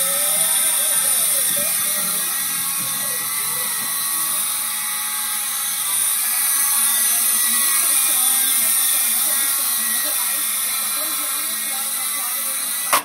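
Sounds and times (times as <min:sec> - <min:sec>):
rotor blades whirring: 0:00.0 - 0:13.0
small electric motors whining: 0:00.0 - 0:13.0.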